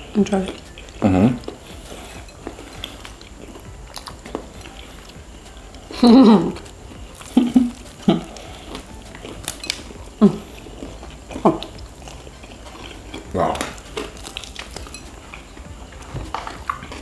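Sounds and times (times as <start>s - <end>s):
vocal murmurs: 0.0s - 14.5s
crunchy chewing: 0.0s - 17.0s.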